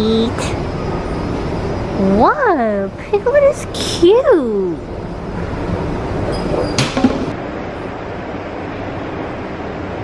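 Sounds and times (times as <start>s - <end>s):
subway train rumbling: 0.0s - 10.0s.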